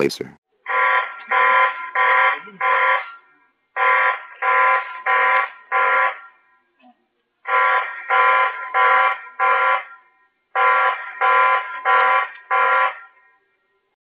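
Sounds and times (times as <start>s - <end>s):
loud buzzy alarm beeps: 0.7s - 6.5s, 7.5s - 13.2s.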